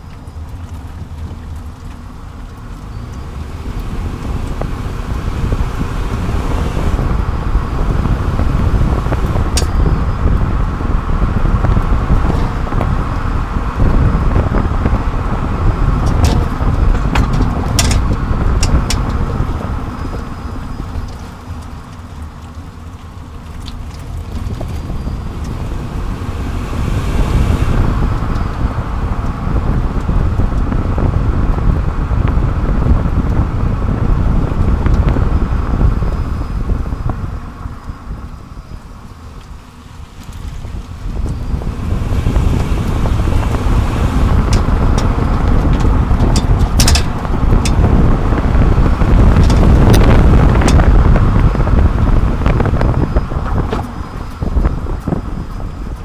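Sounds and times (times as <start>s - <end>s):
road and tyre noise: 0.0s - 56.0s
wind on microphone: 0.0s - 56.0s.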